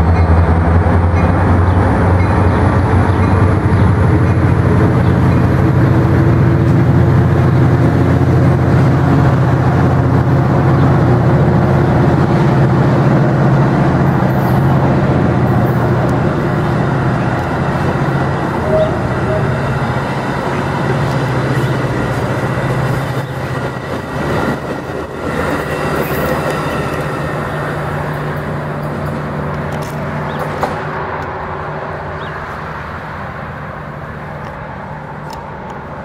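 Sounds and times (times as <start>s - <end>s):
train cars rolling past: 0.0s - 36.0s.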